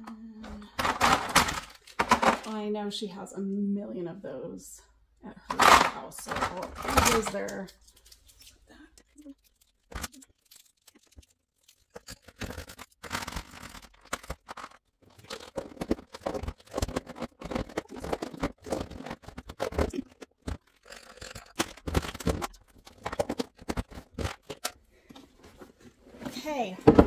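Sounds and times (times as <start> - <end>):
plastic bins clattering and scraping: 0.4 - 2.7, 5.4 - 27.0.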